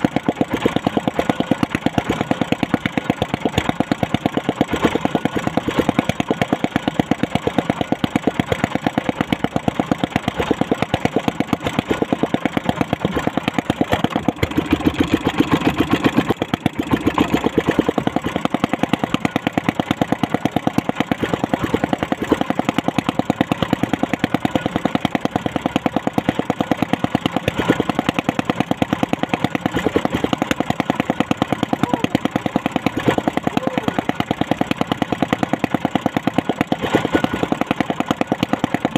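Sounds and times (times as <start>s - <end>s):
small boat engine puttering: 0.0s - 38.9s.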